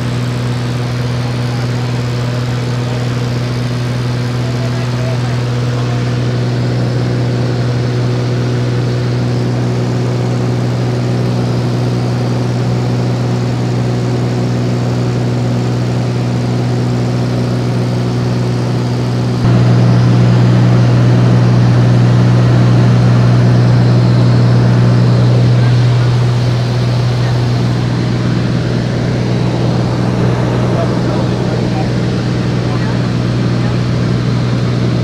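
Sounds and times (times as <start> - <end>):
large engine droning: 0.0 - 35.0.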